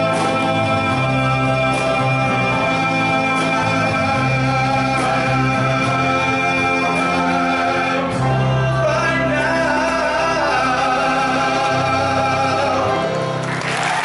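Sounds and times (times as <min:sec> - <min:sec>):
male vocal quartet singing: 0:00.0 - 0:13.5.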